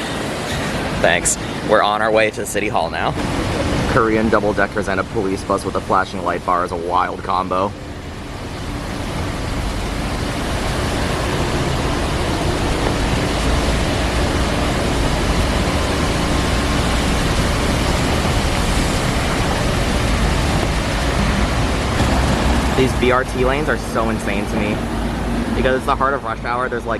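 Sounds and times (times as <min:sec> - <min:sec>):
buses driving past: 0:00.0 - 0:26.9
city street traffic: 0:00.0 - 0:26.9.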